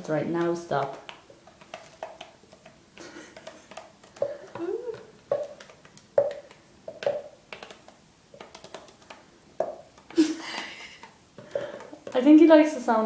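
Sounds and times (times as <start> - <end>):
bird feet tapping on hard surface: 0.3 - 12.5.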